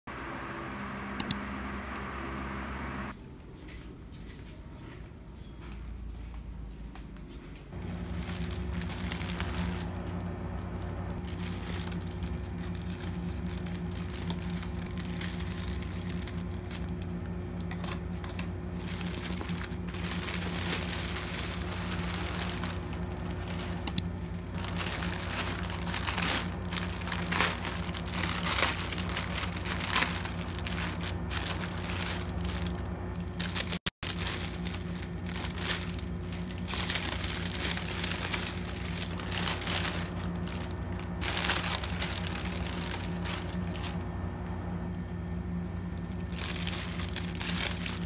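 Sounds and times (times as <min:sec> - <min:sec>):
steady low hum: 0:00.1 - 0:03.4, 0:05.9 - 0:48.0
plastic packaging crinkling: 0:07.8 - 0:44.1, 0:45.7 - 0:48.0.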